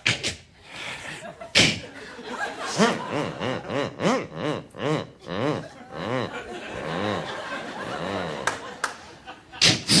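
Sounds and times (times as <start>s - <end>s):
man making laugh-like sounds: 1.2s - 10.0s.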